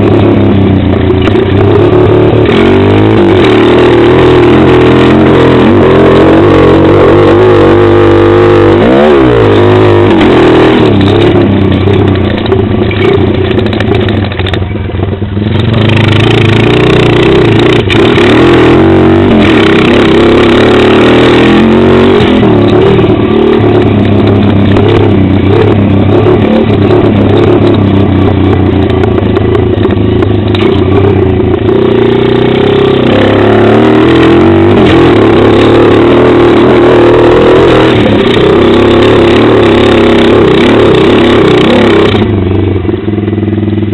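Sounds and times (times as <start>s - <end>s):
pit bike engine revving: 0.0s - 14.5s, 15.3s - 43.9s.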